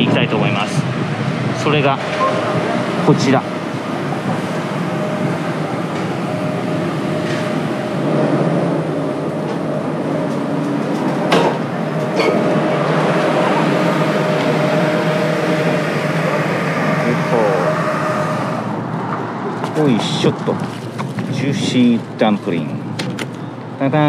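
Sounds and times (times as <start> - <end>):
constant hum: 0.0 - 24.0
traffic rumble: 0.0 - 24.0.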